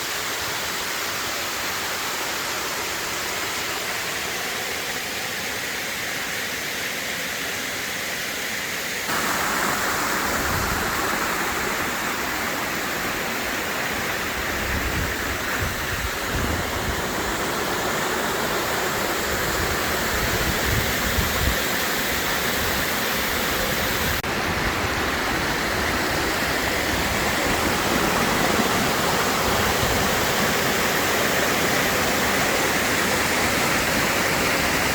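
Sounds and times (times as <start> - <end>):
waterfall rushing and splashing: 0.0 - 34.9.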